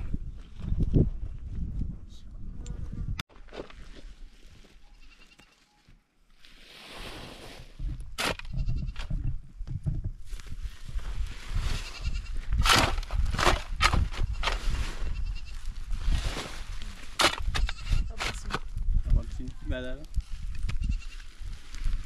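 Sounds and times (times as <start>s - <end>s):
wind on microphone: 0.0s - 3.2s, 7.4s - 22.0s.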